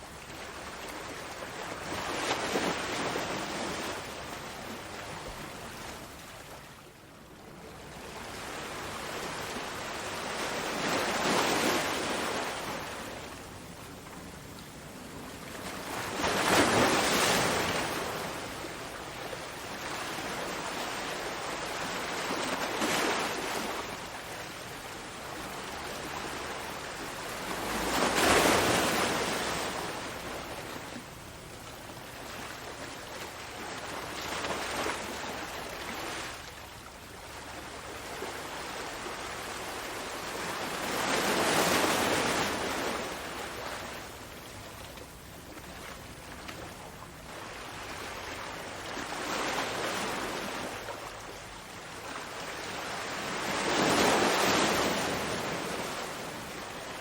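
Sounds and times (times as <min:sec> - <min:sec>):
ocean waves breaking: 0:07.7 - 0:13.7, 0:15.0 - 0:57.0.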